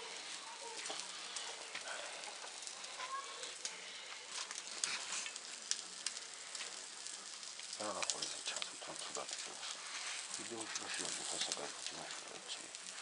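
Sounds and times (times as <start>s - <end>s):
coals crackling and popping: 0.0s - 13.0s
meat sizzling over coals: 0.0s - 13.0s.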